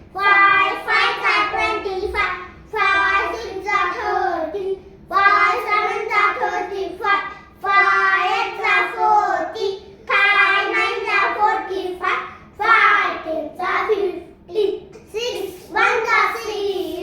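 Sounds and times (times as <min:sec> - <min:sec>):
children chanting in unison: 0:00.0 - 0:14.1, 0:15.2 - 0:17.0.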